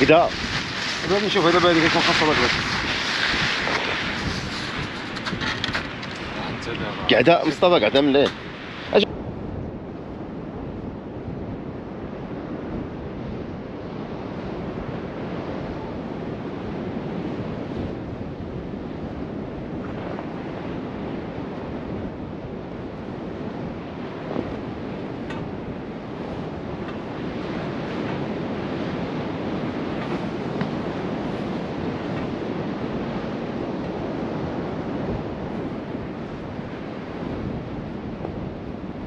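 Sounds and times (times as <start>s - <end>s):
wind rushing across microphone: 0.0s - 39.0s.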